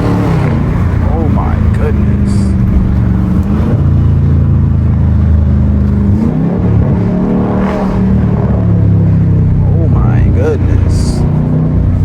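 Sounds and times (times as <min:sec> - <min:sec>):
car engine exhaust running: 0:00.0 - 0:12.0.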